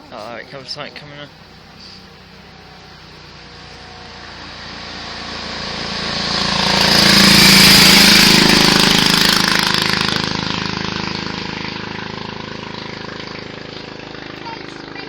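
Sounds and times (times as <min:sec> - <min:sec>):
car engine driving past: 0:00.7 - 0:15.0.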